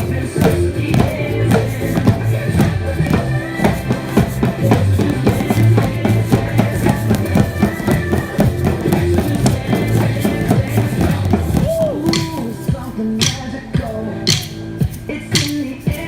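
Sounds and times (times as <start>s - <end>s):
balls struck like drums: 0.0s - 16.0s
song with bass and guitar: 0.0s - 16.0s.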